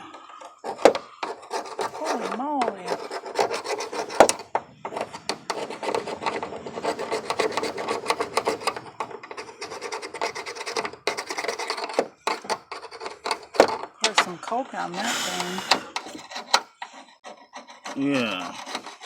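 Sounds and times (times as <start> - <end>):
hand tool scraping metal: 0.0 - 19.0.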